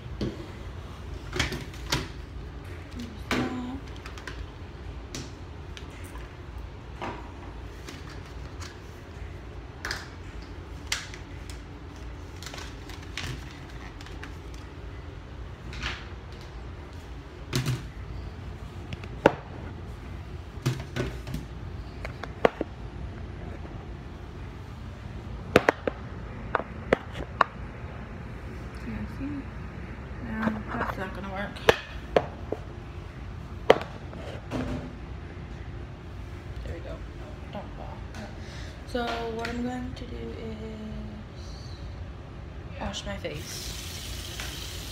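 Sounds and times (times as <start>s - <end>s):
steady low hum: 0.0s - 43.8s.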